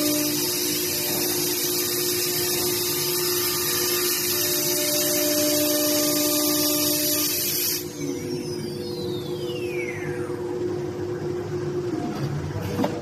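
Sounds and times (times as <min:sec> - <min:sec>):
machine hissing and humming: 0:00.0 - 0:13.0.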